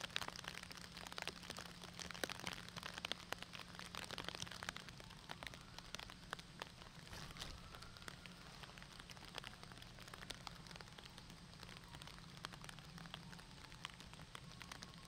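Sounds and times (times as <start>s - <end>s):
faint low hum: 0.0s - 15.0s
light rain pattering: 0.0s - 15.0s.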